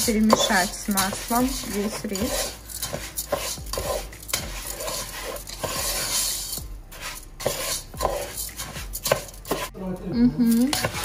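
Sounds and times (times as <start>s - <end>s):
spatula scraping rice in a pot: 0.0s - 9.8s, 10.5s - 11.0s.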